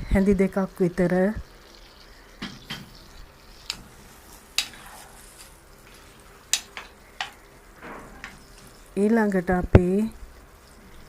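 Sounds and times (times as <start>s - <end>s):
vegetables sizzling in a pan: 0.5s - 11.0s.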